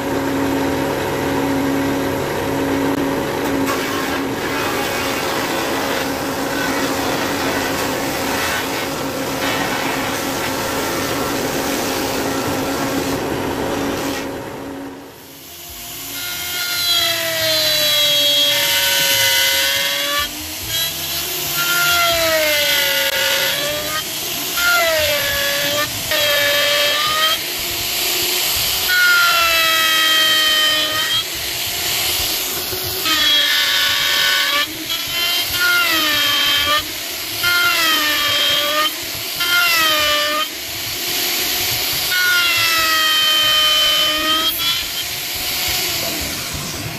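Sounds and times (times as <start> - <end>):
router whining cutting wood: 0.0 - 46.9
table saw running: 0.0 - 46.9.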